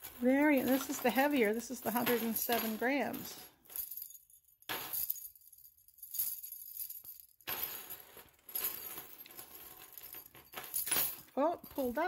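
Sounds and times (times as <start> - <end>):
metal chains jangling: 0.0 - 12.0.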